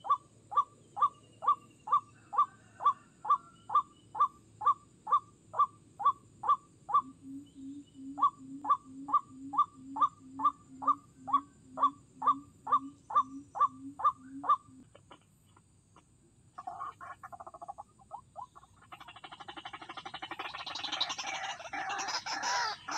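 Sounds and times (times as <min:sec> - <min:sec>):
bird harsh repeated calls: 0:00.0 - 0:22.9.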